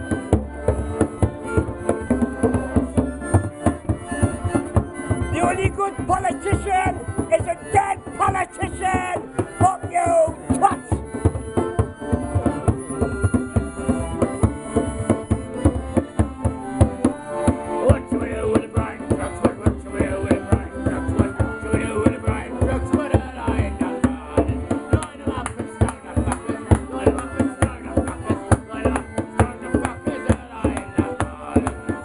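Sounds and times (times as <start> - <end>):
piano accordion folk tune: 0.0 - 32.0.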